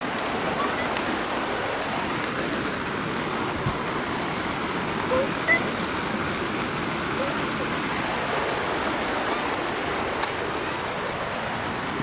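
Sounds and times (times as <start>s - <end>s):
heavy rain on plastic roof: 0.0s - 12.0s.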